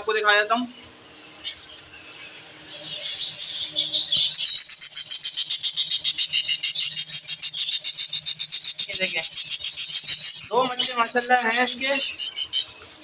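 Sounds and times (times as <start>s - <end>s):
bird chicks chirping: 0.0s - 13.0s.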